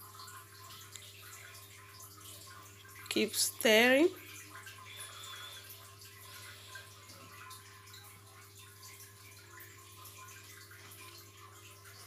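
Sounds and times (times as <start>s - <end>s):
pudding bubbling in saucepan: 0.0s - 12.0s.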